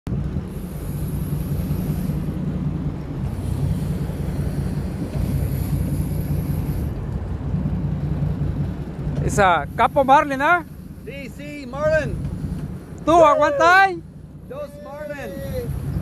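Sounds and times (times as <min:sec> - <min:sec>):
boat engine drone: 0:00.1 - 0:16.0.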